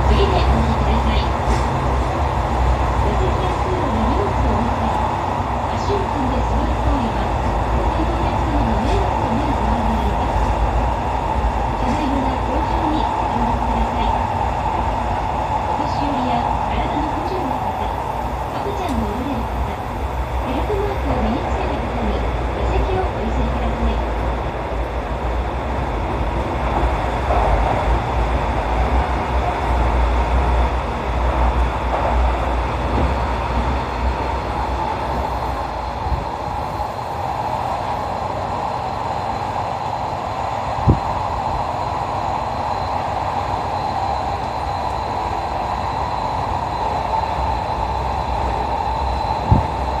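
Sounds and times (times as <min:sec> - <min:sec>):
train rumbling through tunnel: 0:00.0 - 0:50.0.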